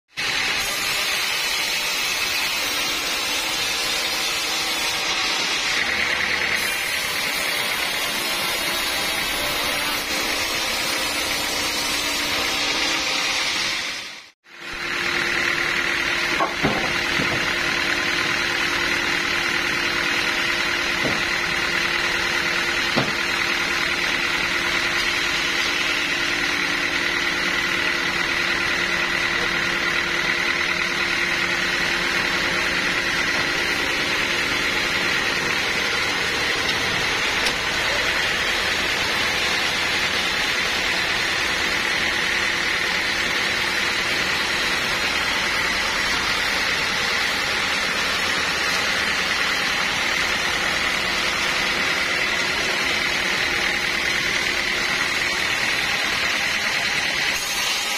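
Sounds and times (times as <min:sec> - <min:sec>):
band saw humming with high whine: 0:00.2 - 0:57.9.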